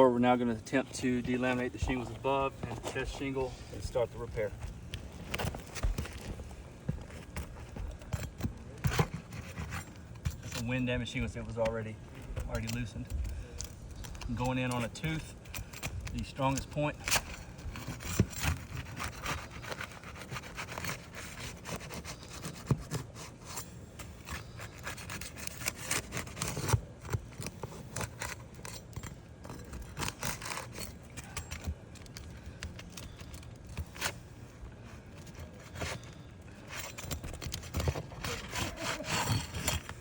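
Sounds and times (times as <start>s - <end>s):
tool scraping roof shingles: 0.2s - 40.0s.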